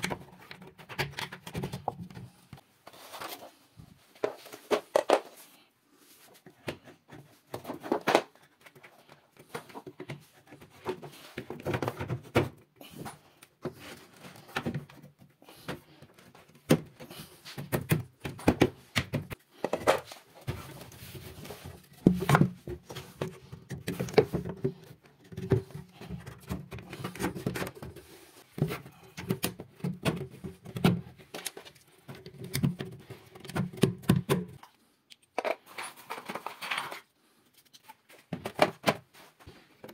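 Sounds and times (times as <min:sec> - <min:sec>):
wardrobe parts knocking and scraping: 0:00.0 - 0:05.5, 0:06.3 - 0:37.1.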